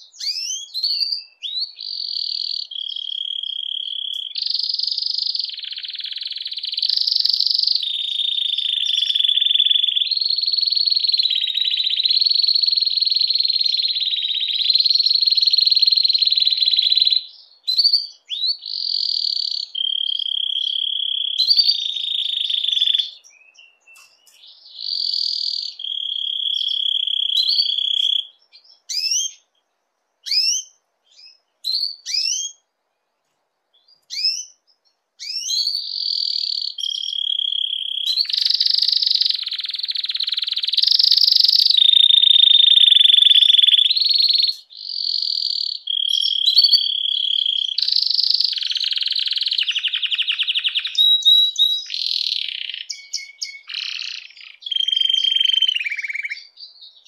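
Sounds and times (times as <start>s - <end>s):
canary trilling: 0.0s - 29.4s, 30.2s - 32.6s, 33.8s - 34.6s, 35.2s - 57.0s.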